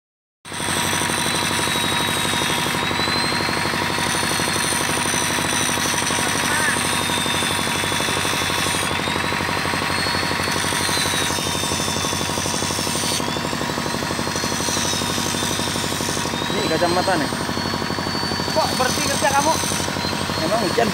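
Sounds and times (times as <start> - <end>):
electric impact tool hammering: 0.5 - 20.9.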